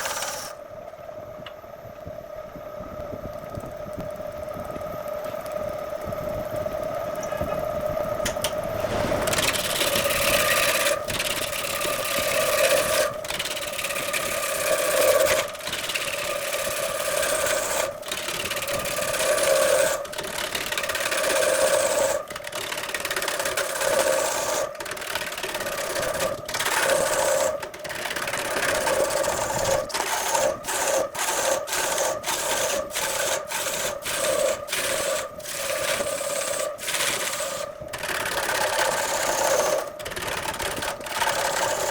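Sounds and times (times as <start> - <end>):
tool scraping wood: 0.0 - 0.6, 8.8 - 41.9.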